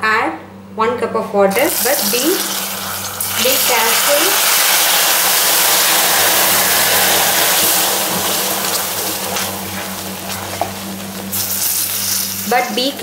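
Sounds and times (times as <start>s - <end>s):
steady low hum: 0.0s - 13.0s
sugar syrup hissing and sizzling: 1.5s - 13.0s.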